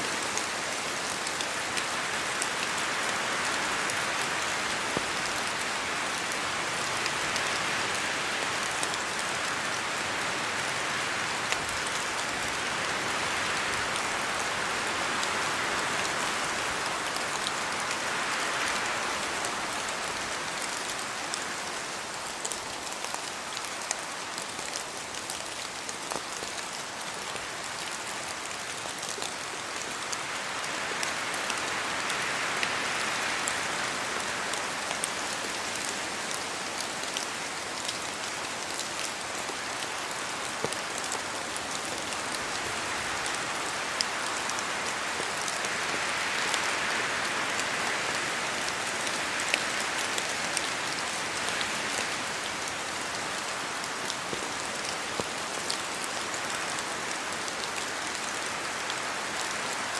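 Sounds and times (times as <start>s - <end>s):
rain falling on trees: 0.0s - 59.9s.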